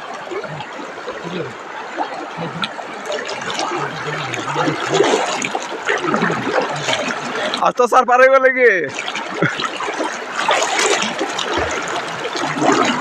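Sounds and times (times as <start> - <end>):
waterfall rushing: 0.0 - 8.1, 8.8 - 13.0.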